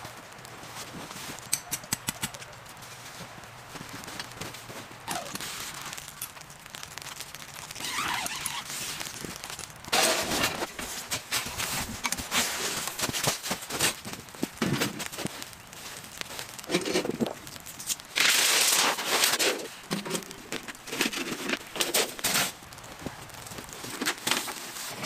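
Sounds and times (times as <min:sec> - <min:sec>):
footsteps crunching on snow: 0:00.0 - 0:01.5, 0:02.3 - 0:25.0.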